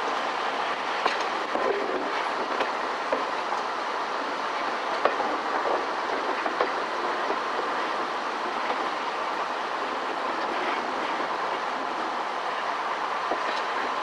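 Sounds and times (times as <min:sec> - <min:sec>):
rumble of wheels on rail: 0:00.0 - 0:14.0.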